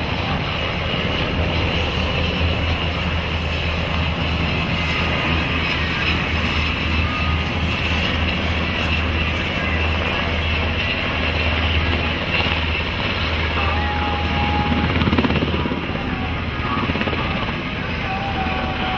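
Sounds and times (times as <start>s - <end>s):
helicopter flying low past: 0.0s - 18.9s.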